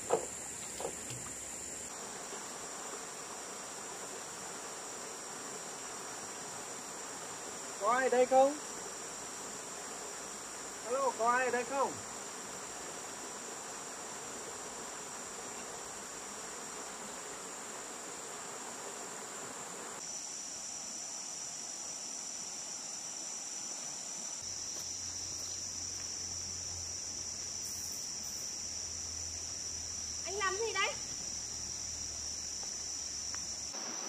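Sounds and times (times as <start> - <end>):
insects chirring: 0.0 - 34.0
soft hiss: 0.0 - 34.0.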